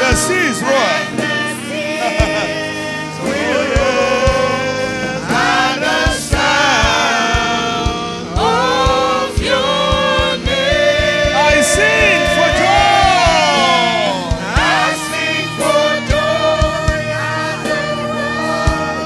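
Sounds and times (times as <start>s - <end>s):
band playing: 0.0s - 19.0s
choir and congregation singing: 0.0s - 19.0s
steady drum beat: 0.0s - 19.0s.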